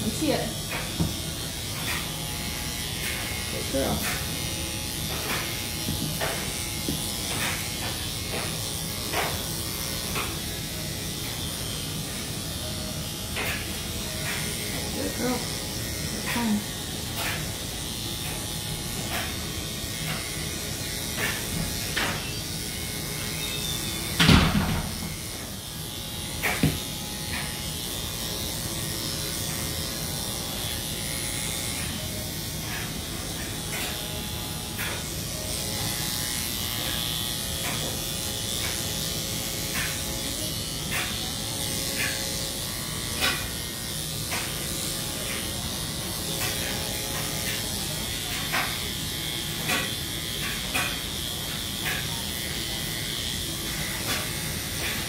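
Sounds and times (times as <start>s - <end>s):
electric clippers running: 0.0s - 55.0s.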